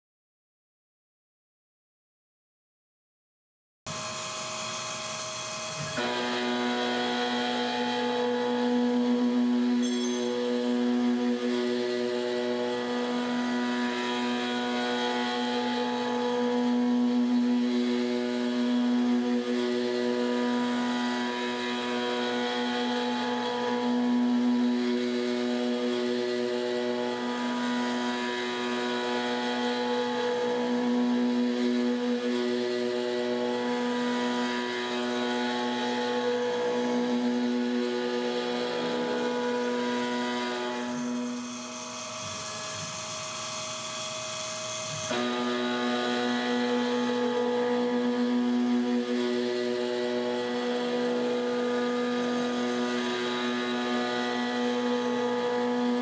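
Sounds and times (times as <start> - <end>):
mill cutting metal: 3.9 - 56.0.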